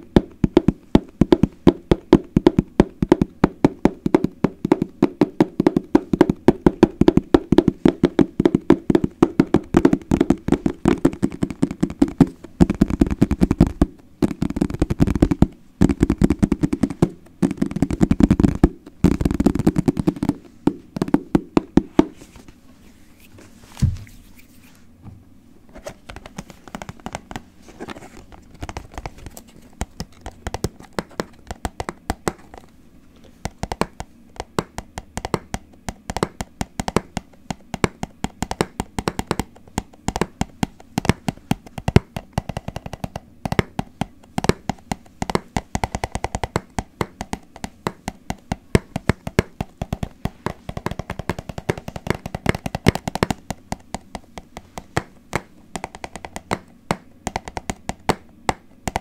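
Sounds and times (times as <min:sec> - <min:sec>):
tapping on hard objects: 0:00.0 - 0:22.2, 0:26.0 - 0:27.5, 0:28.2 - 0:32.7, 0:33.4 - 0:59.0.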